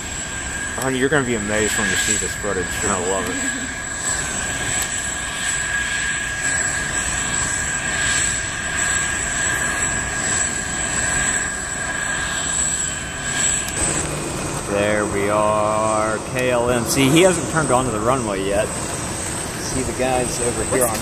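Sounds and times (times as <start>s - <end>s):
jet airliner engines taking off: 0.0s - 21.0s.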